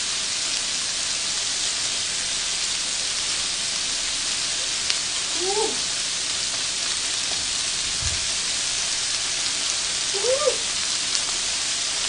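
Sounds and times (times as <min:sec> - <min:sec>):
shrimp sizzling on grill: 0:00.0 - 0:12.0.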